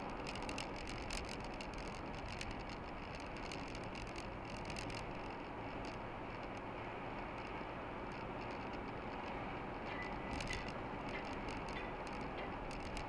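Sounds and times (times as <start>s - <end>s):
car road and engine noise: 0.0s - 13.0s
light ticks and clicks: 0.0s - 13.0s.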